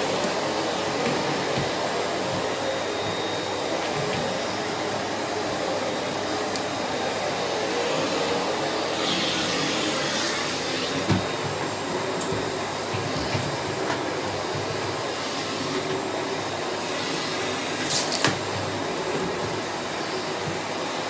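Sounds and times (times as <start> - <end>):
vacuum cleaner on tiled floor: 0.0 - 21.0.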